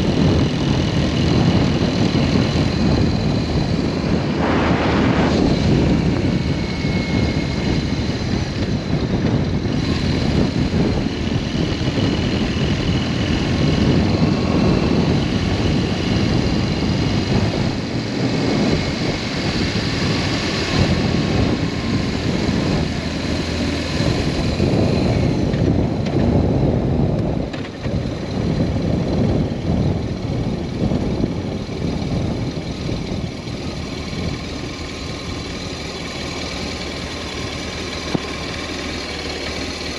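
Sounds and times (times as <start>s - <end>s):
motorcycle engine drone: 0.0s - 39.9s
wind rushing on microphone: 0.0s - 39.9s.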